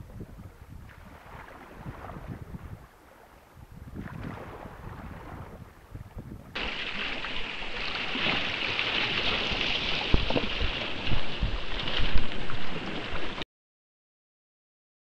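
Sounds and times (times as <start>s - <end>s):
water rushing past a hull: 0.0s - 13.4s
wind buffeting microphone: 0.0s - 13.4s.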